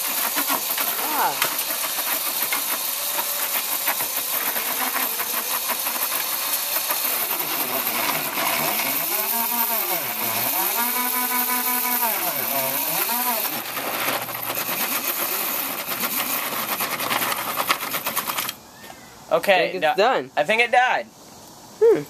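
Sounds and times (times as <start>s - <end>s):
electric motor whine: 0.0s - 18.6s
tire spinning on dirt: 0.0s - 18.6s.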